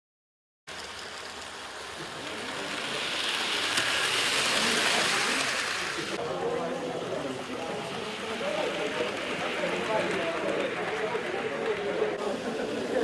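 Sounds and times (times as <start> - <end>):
model train wheels rattling on rail: 0.7 - 13.0.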